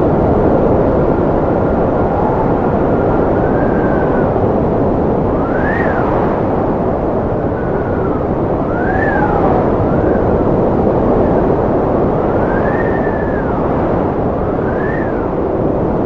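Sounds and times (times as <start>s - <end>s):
strong wind rushing: 0.0s - 16.0s
wind whistling: 0.0s - 16.0s.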